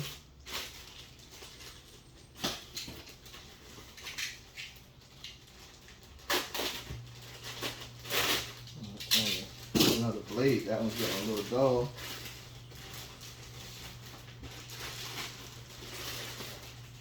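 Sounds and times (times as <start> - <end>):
low steady hum: 0.0 - 17.0
packaging rustling and scraping: 0.0 - 17.0.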